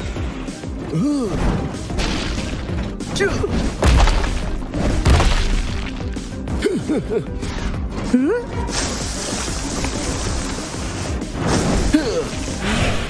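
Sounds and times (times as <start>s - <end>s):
cartoon background music: 0.0s - 13.0s.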